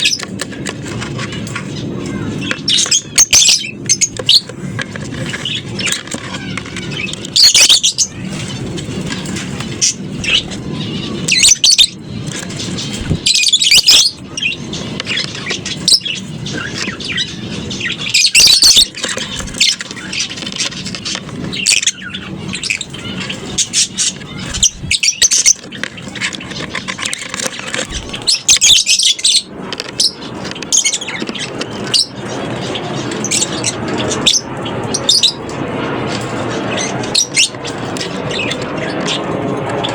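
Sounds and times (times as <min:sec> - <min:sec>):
lovebirds chirping and screeching: 0:00.0 - 0:39.9.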